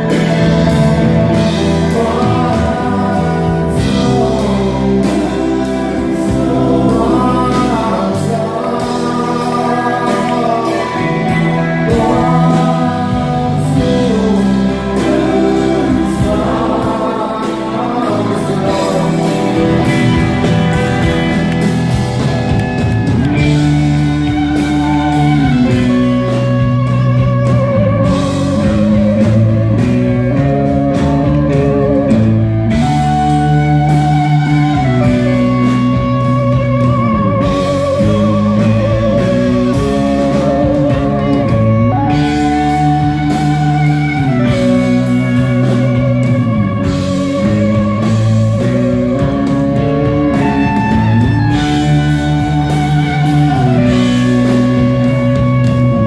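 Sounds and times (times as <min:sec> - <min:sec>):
man singing: 0:00.0 - 0:21.6, 0:23.3 - 0:56.0
lead guitar line: 0:00.0 - 0:56.0
live rock band playing: 0:00.0 - 0:56.0.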